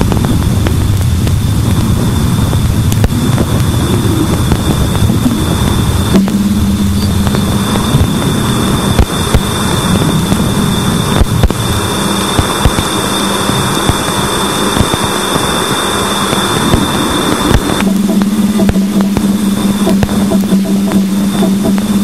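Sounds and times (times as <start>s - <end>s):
dense crackling hiss: 0.0s - 22.0s
low steady hum: 0.0s - 22.0s
thin steady high tone: 2.1s - 22.0s.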